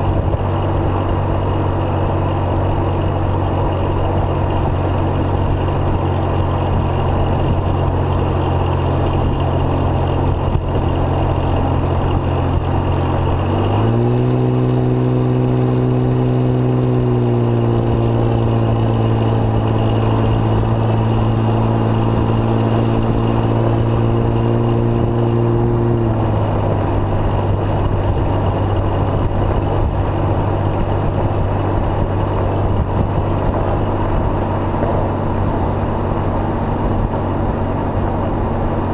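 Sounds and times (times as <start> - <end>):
low exhaust drone: 0.0 - 38.9.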